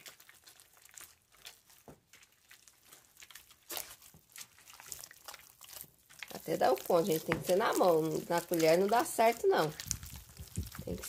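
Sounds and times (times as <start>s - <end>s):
hands squishing wet dough: 0.0s - 11.0s.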